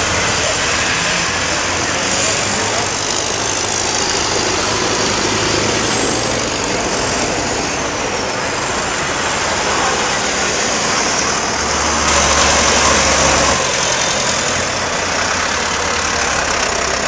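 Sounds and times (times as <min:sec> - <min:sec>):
tractor engines running: 0:00.0 - 0:17.0.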